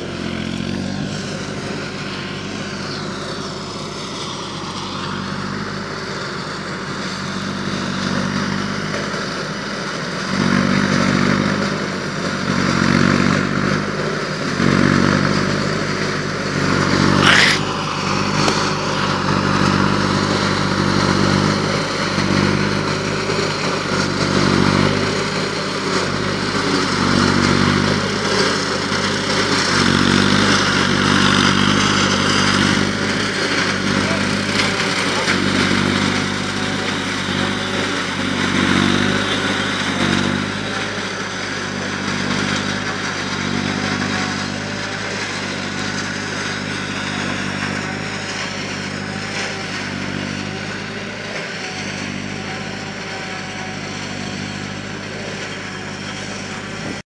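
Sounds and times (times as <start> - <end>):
forage harvester chopping maize: 0.0 - 57.0
tractor diesel engine under load: 0.0 - 57.0.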